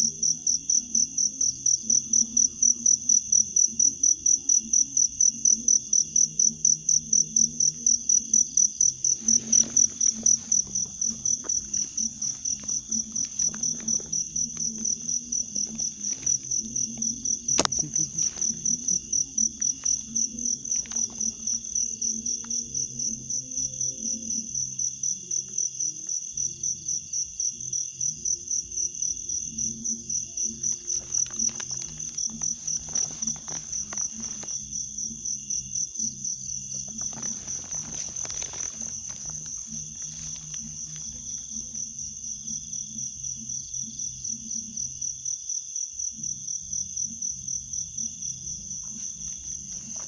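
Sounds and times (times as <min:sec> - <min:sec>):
cricket trilling: 0:00.0 - 0:50.0.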